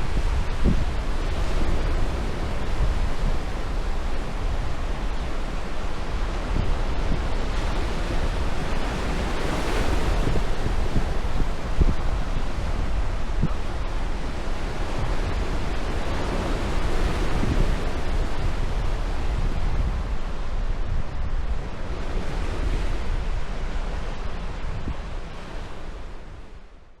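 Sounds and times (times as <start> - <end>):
sea waves washing onto beach: 0.0 - 26.8
wind buffeting microphone: 0.0 - 26.9.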